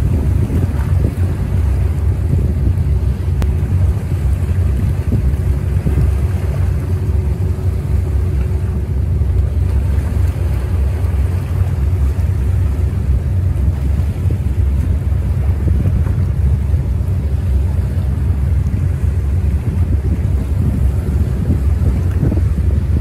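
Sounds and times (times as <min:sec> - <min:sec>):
boat engines passing: 0:00.0 - 0:23.0
choppy sea: 0:00.0 - 0:23.0
wind rumble on microphone: 0:00.0 - 0:23.0.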